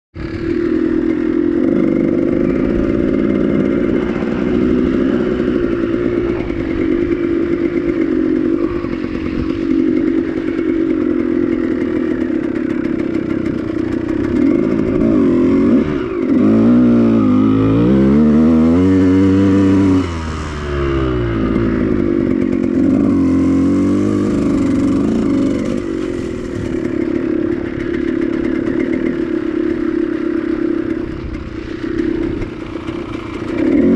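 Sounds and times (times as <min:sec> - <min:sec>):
dirt bike engine revving: 0:00.2 - 0:33.9
dirt bike engines running: 0:00.2 - 0:33.9.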